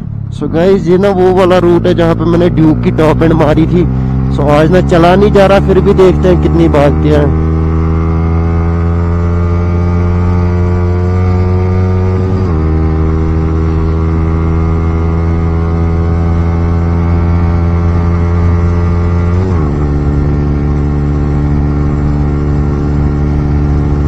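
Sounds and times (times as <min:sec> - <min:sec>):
motorcycle engine at high revs: 0:00.4 - 0:24.0.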